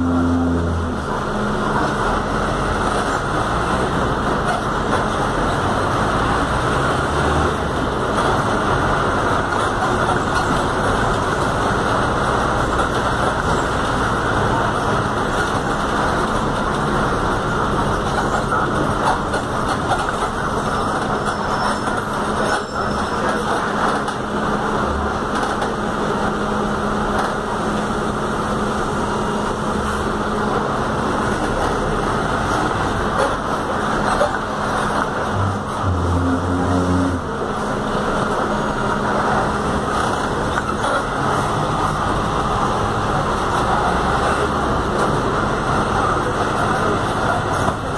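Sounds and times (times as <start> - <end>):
bus engine drone: 0.0 - 47.9.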